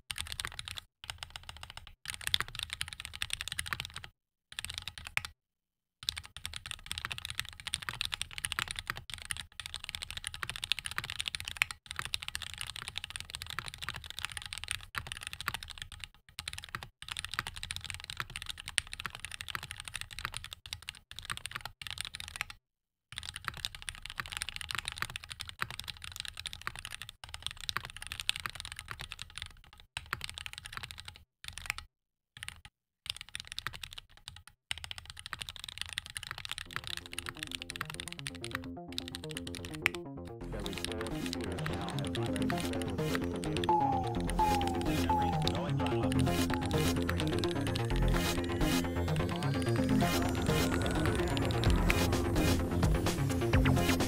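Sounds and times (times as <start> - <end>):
mechanical keyboard typing: 0.0 - 5.4, 6.0 - 54.0.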